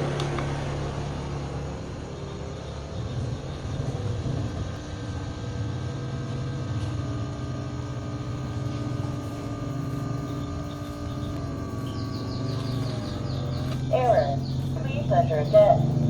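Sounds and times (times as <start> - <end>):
air pump motor humming: 0.0 - 16.0.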